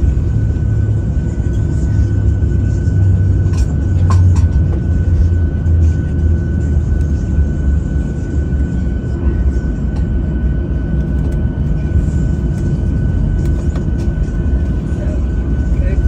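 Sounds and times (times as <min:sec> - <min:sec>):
high engine whine: 0:00.0 - 0:16.0
jet engines idling: 0:00.0 - 0:16.0.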